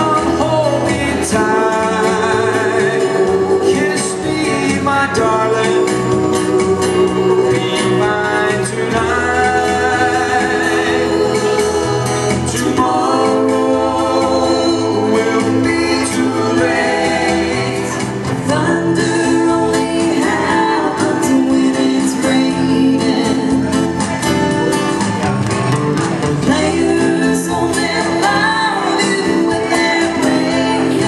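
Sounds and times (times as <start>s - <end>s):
instrumental backing track: 0.0s - 31.0s.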